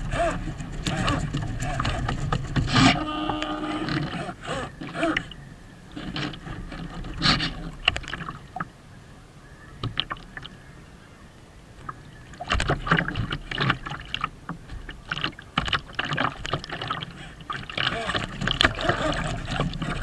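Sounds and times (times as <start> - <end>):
water slapping against hull: 0.0 - 8.8, 9.8 - 10.6, 11.8 - 20.0.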